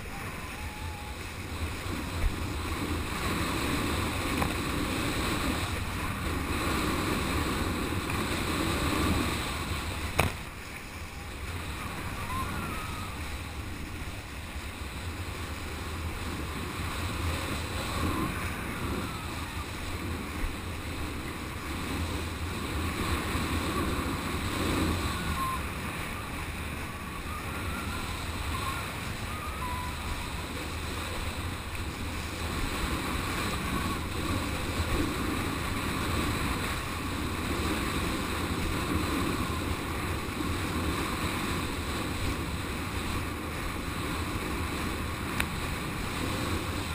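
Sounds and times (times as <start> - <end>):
water rushing and splashing: 0.0 - 46.9
wind buffeting microphone: 0.0 - 46.9.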